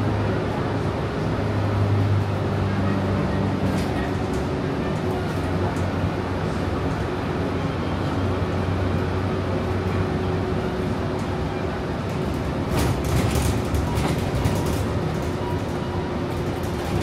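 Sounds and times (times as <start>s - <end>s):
transit vehicle running hum: 0.0s - 17.0s.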